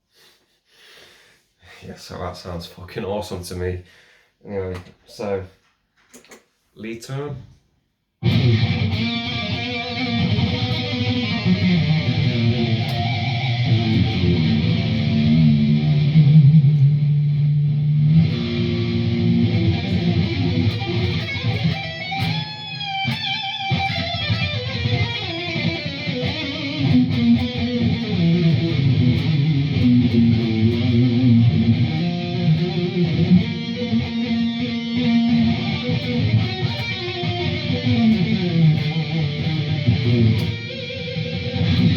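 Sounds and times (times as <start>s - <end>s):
distorted electric guitar lead: 8.2s - 41.9s.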